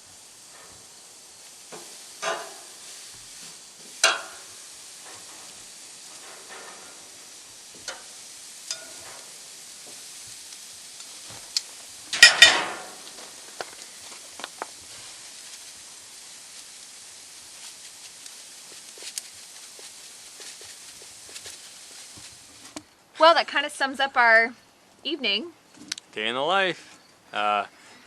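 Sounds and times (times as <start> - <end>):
steaks sizzling on a grill: 0.0 - 24.5.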